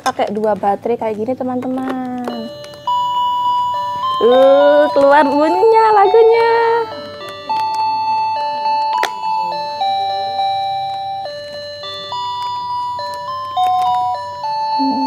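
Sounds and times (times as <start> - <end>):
toy electronic jingle beeping: 2.2 - 15.0.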